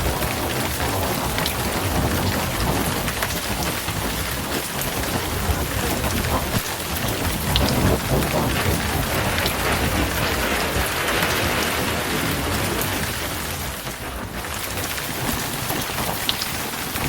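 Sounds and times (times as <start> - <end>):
heavy rain pouring: 0.0 - 17.0
low rumble of thunder: 0.0 - 17.0.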